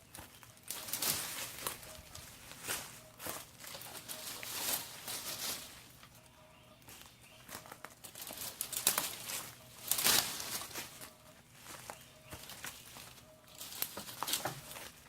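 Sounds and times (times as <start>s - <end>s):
leafy branches rustling: 0.0s - 15.0s.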